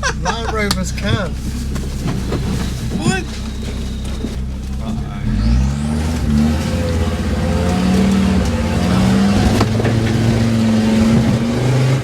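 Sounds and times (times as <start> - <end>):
engine labouring under load: 0.0 - 12.0.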